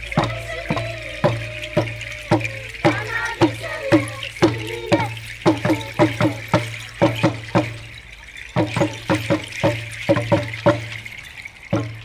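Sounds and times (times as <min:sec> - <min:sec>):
drums beaten: 0:00.0 - 0:12.0.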